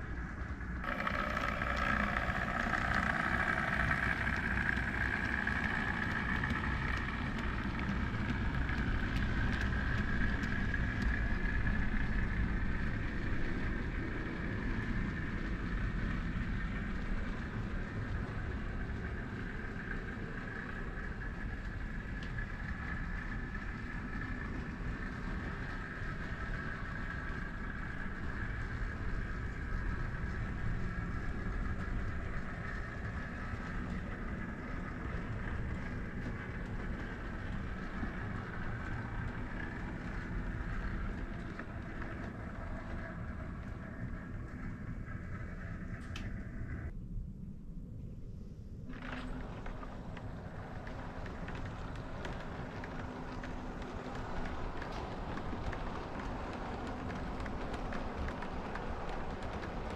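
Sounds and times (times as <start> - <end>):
model train motor hum and whine: 0.0 - 46.9, 48.8 - 59.9.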